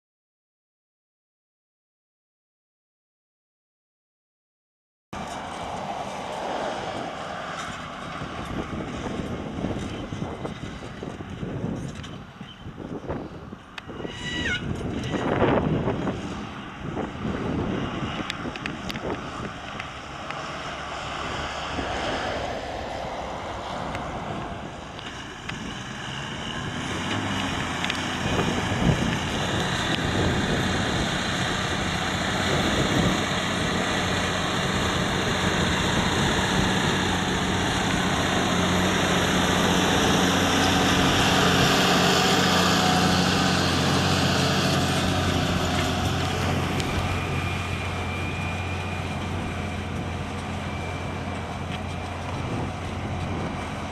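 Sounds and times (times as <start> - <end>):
wind: 5.1 - 53.9
road traffic hiss: 5.2 - 53.9
tractor diesel engine under load: 5.2 - 53.9.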